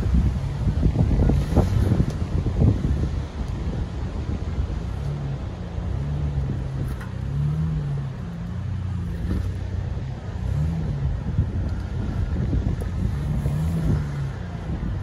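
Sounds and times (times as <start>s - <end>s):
engine revving at low speed: 0.0s - 15.0s
low rumble: 0.0s - 15.0s.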